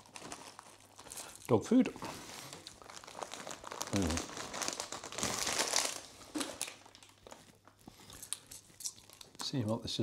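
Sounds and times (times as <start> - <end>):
plastic snack bag crinkling: 0.0 - 9.8.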